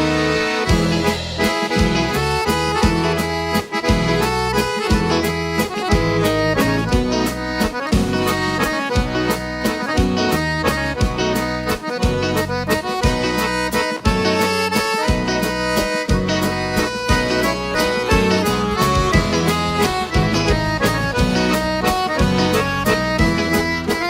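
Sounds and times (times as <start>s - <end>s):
accordion melody: 0.0s - 24.0s
low bass notes: 0.0s - 24.0s
steady drum beat: 0.6s - 24.0s.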